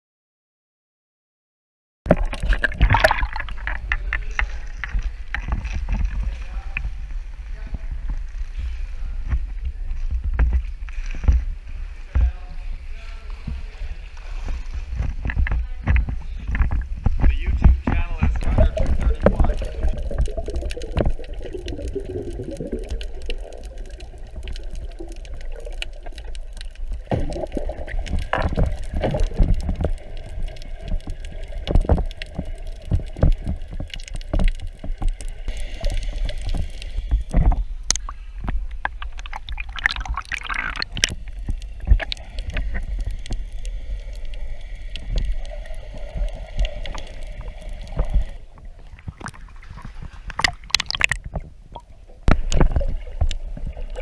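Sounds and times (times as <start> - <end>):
water bubbling: 2.1 - 7.1, 14.6 - 54.0
muffled underwater rumble: 2.1 - 54.0.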